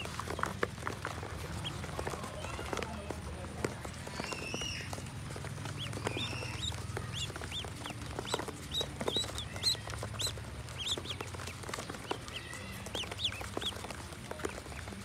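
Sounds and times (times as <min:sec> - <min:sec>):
ducklings peeping: 0:00.0 - 0:15.0
soft pecking taps: 0:00.0 - 0:15.0.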